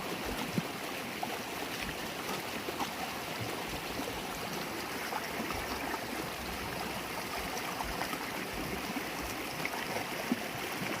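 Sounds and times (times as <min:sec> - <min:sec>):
river water babbling over stones: 0:00.0 - 0:11.0.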